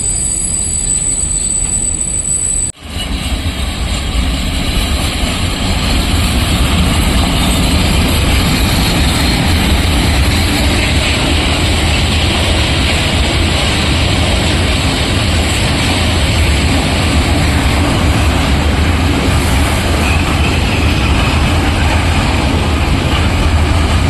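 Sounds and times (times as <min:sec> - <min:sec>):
electric locomotive rumbling: 0:00.0 - 0:24.0.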